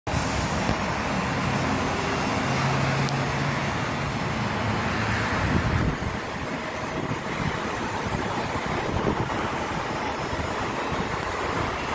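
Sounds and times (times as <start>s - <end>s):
road traffic engine hum: 0.1s - 11.9s.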